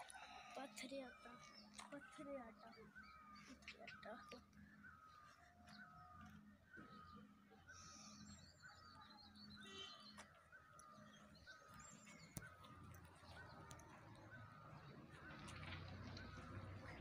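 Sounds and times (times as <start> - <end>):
higher bird chirps: 0.0 - 17.0.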